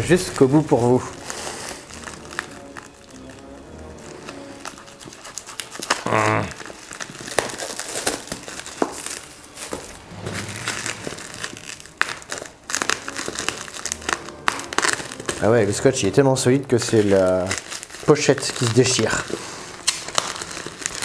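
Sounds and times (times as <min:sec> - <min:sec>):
plastic bag crinkling and tearing: 0:00.0 - 0:21.0.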